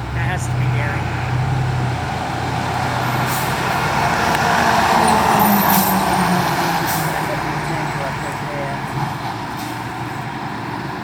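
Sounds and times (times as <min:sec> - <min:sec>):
heavy truck engine running: 0:00.0 - 0:11.0
truck road noise: 0:00.0 - 0:11.0.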